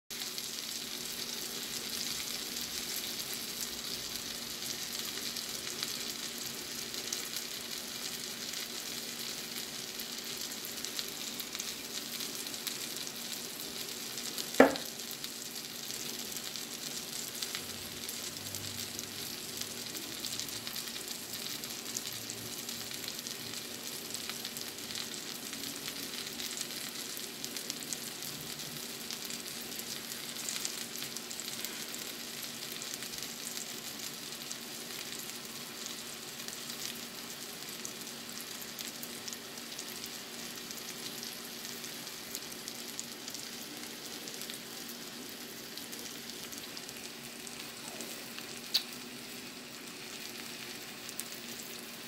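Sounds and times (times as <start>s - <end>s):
fish sizzling in a frying pan: 0.1s - 52.0s.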